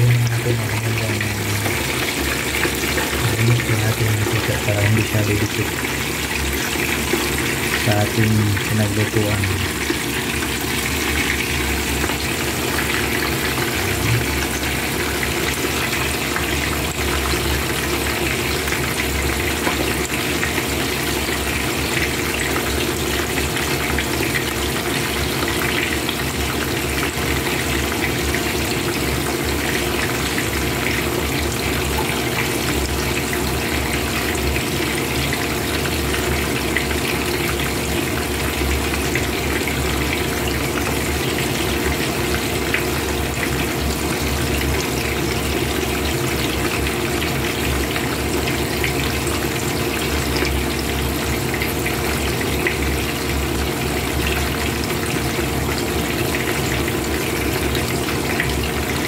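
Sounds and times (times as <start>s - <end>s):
fish sizzling in hot oil: 1.4s - 3.3s, 5.3s - 7.9s, 9.6s - 59.0s.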